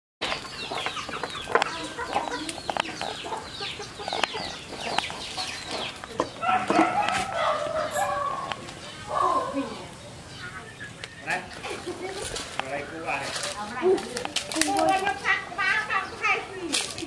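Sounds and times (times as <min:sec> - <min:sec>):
chicken clucking: 0:00.2 - 0:14.1
chicks peeping: 0:00.2 - 0:16.7.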